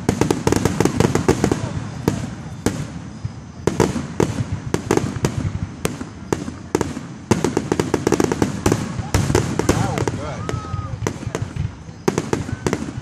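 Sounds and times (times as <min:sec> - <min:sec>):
fireworks bursts and booms: 0:00.0 - 0:13.0.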